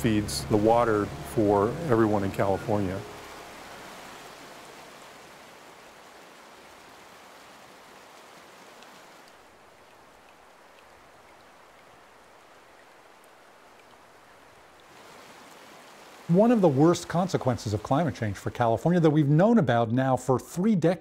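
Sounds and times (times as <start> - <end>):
water rushing over rocks: 0.0 - 18.7.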